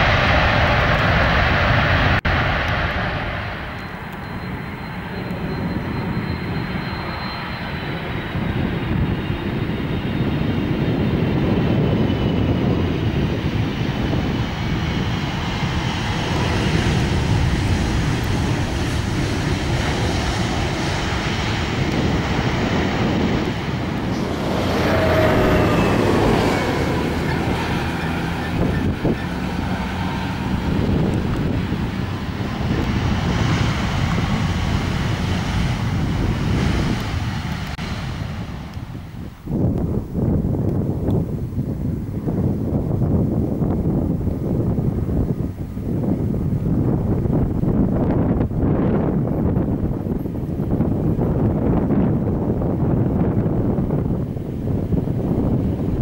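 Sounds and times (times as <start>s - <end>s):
jet engine falling whine: 0.0s - 56.0s
jet engines rumbling at takeoff: 0.0s - 56.0s.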